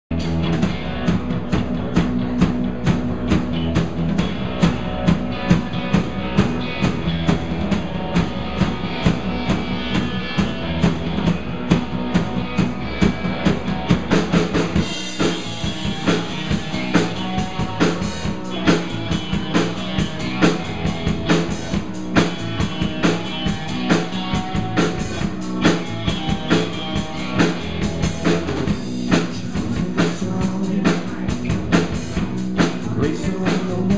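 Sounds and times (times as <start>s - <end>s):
live instrumental rock band: 0.1s - 33.9s.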